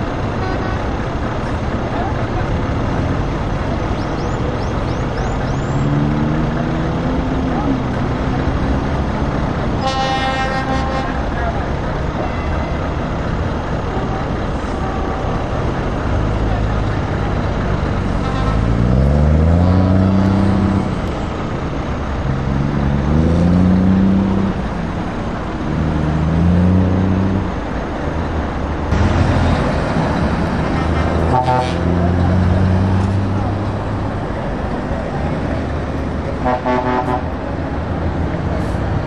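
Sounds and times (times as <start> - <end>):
diesel truck engine accelerating: 0.0 - 39.0.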